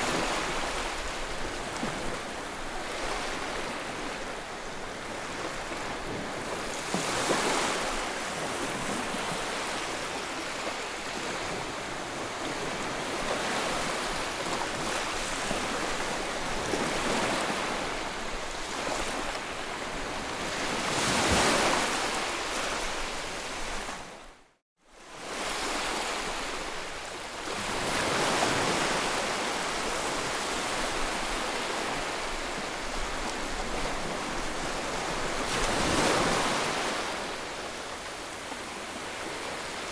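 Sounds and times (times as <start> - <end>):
ocean waves: 0.0 - 39.9.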